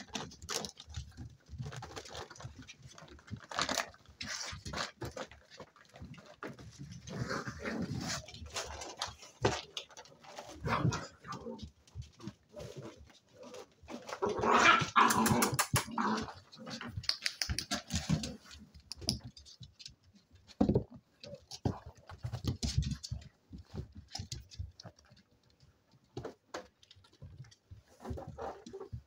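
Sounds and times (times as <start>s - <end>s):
puppies' claws clicking on wooden floor: 0.0s - 29.0s.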